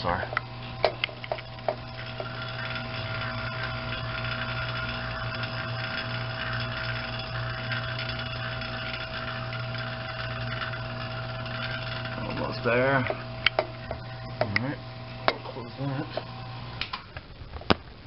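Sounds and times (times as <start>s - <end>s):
vacuum pump humming: 0.0s - 17.4s.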